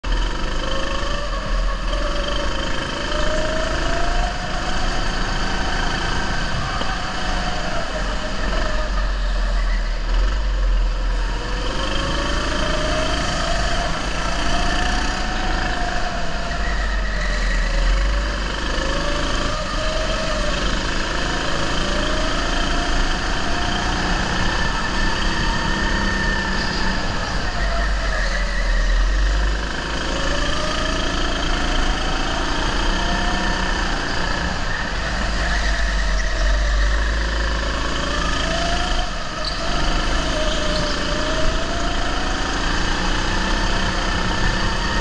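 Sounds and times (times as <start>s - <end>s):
go-kart motor revving: 0.0s - 45.0s.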